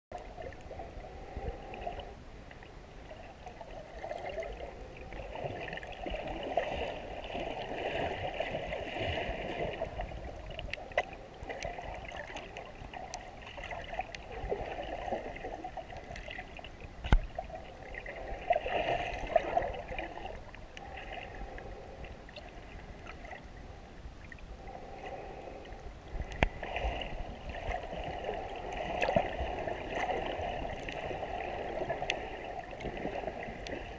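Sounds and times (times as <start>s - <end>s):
muffled underwater water noise: 0.1s - 33.9s.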